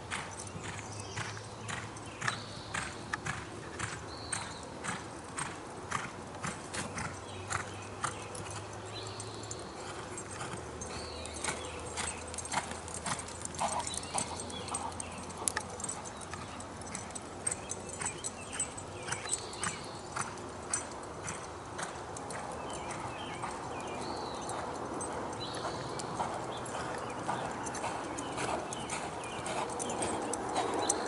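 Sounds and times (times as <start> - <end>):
horse hoofbeats on dirt: 0.0 - 31.0.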